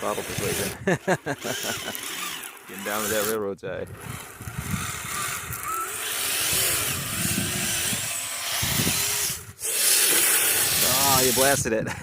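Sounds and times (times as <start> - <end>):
small electric motor whining: 0.0 - 11.7.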